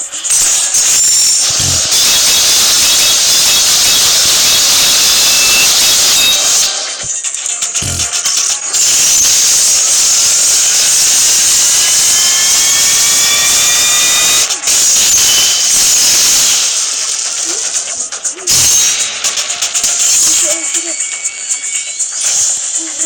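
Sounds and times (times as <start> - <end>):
spinning tops whirring: 0.0 - 23.0.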